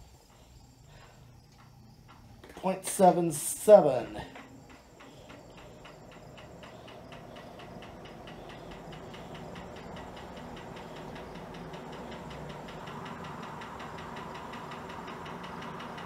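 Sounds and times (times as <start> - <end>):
ceiling fan hum: 0.0 - 16.0
ceiling fan ticking: 0.0 - 16.0.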